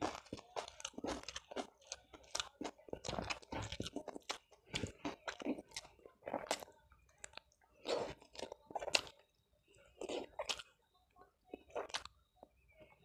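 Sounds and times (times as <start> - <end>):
person chewing crunchy fried food: 0.0 - 12.6.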